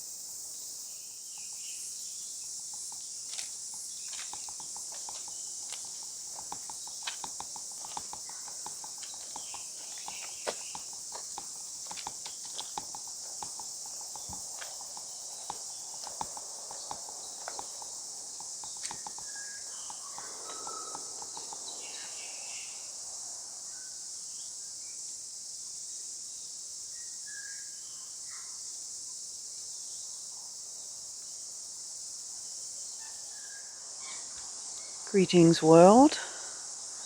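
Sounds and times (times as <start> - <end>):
insects chorus: 0.0 - 37.0.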